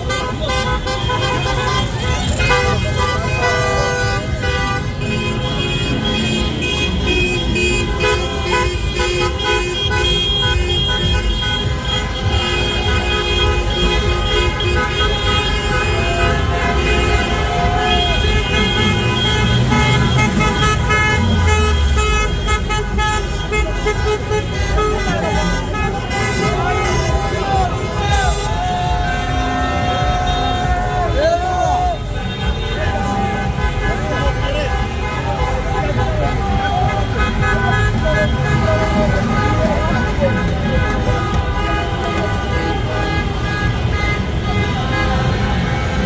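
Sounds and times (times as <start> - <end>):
car horns honking: 0.0 - 46.0
crowd voices: 0.0 - 46.0.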